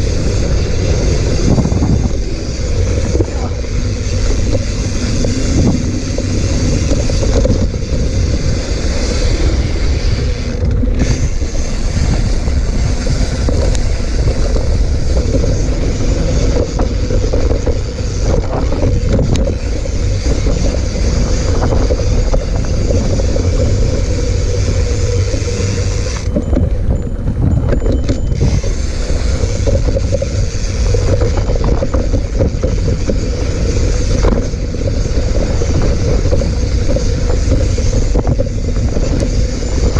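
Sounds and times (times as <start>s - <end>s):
bike tyre rumble on dirt: 0.0s - 39.9s
wind buffeting microphone: 0.0s - 39.9s.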